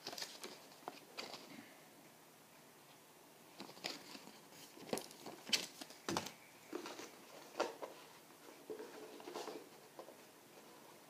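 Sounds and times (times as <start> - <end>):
cardboard packaging rustling: 0.0 - 1.6, 3.5 - 11.0.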